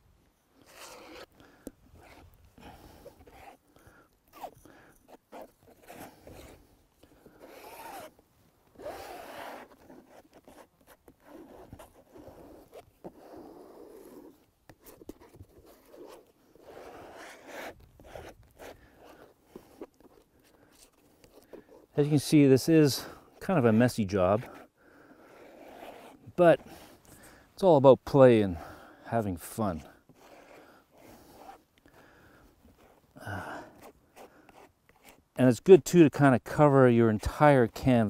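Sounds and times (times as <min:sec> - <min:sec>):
paint scraping and smearing on canvas: 0:00.6 - 0:03.7, 0:04.3 - 0:08.2, 0:08.8 - 0:27.2, 0:29.4 - 0:31.7, 0:32.4 - 0:35.6.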